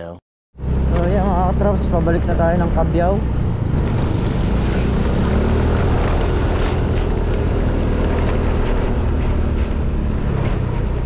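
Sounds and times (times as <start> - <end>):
motor scooter engine running: 0.6 - 11.0
wind rushing over microphone: 0.6 - 11.0.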